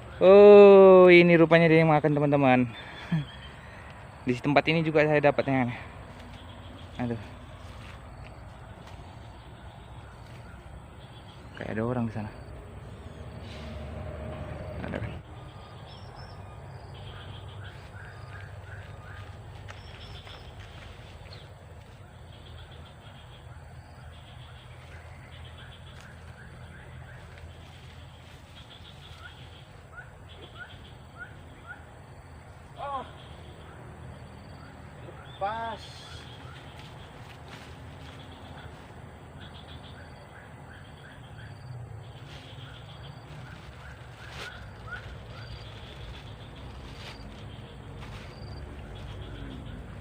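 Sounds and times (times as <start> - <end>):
bird chirping: 0.0 - 50.0.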